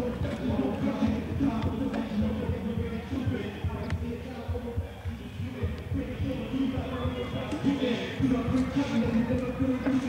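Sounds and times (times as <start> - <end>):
indistinct talk: 0.0 - 10.0
music with bass beat: 0.0 - 10.0.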